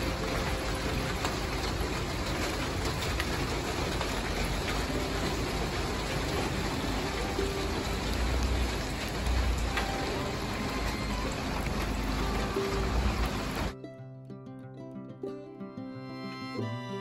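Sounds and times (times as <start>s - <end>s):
rain falling on wet ground: 0.0s - 13.8s.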